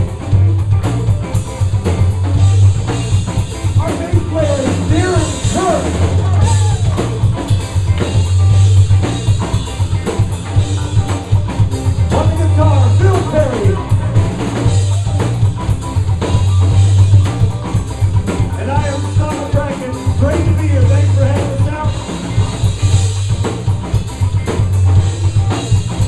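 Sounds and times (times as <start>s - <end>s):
bass line: 0.0s - 26.0s
drum kit beat: 0.0s - 26.0s.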